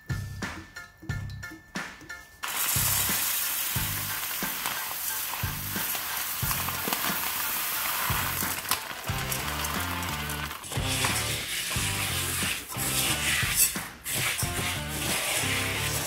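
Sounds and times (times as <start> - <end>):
pasta sizzling in hot oil: 2.4 - 16.0.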